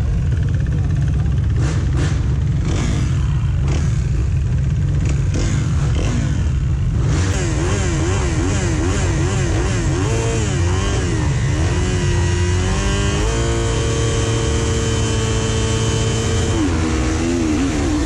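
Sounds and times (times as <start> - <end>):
dirt bike engine revving: 0.0 - 18.0
other motorbike engines running: 0.0 - 18.0.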